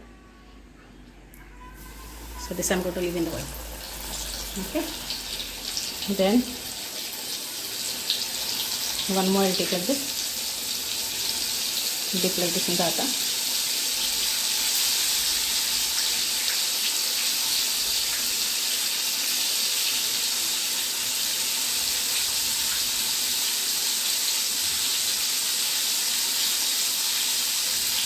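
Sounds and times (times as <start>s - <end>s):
fish deep-frying in oil: 1.9s - 28.0s.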